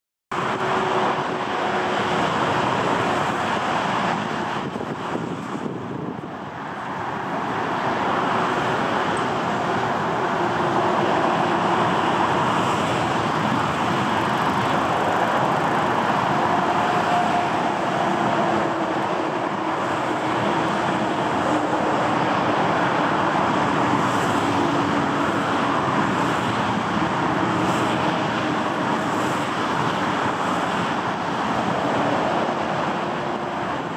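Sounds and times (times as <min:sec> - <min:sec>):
jet engines at taxi power: 0:00.3 - 0:33.9.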